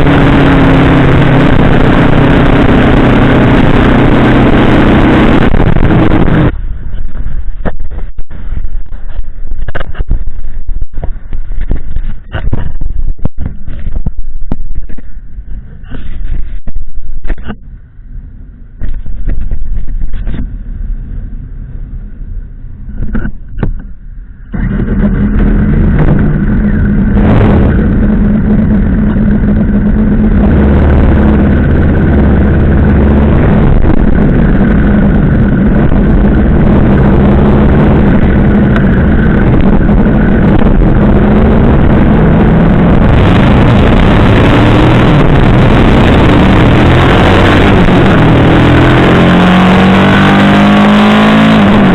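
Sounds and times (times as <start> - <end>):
motorcycle engine riding: 0.0 - 51.9
wind noise: 0.0 - 51.9.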